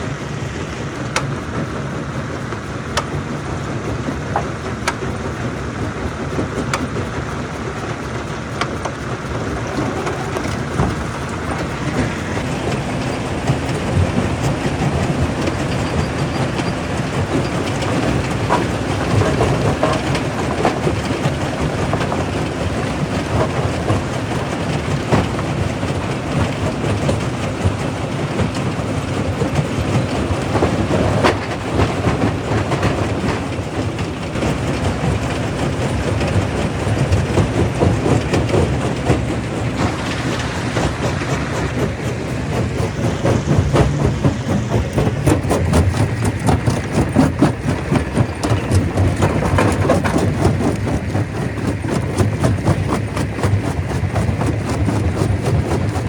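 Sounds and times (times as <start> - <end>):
stone crusher crushing rock: 8.1 - 27.8, 28.4 - 56.0.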